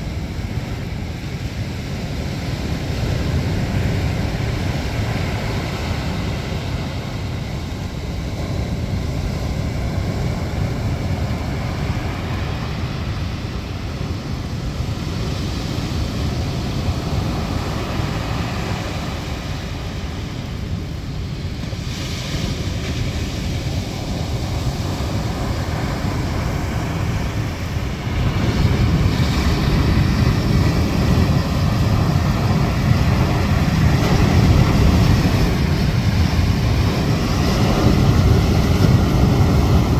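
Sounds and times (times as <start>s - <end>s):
rough surf: 0.0s - 39.9s
wind buffeting microphone: 0.0s - 39.9s.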